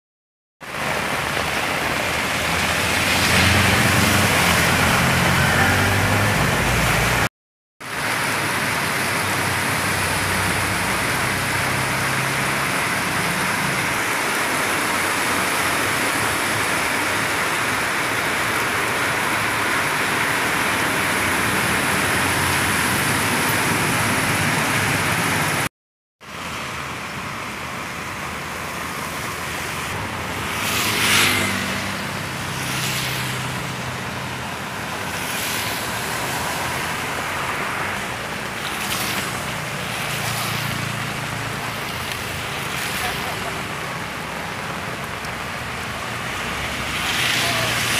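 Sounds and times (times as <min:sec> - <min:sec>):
heavy rain falling: 0:00.6 - 0:25.7, 0:26.3 - 0:47.9
vehicles driving through flood water: 0:00.6 - 0:47.9.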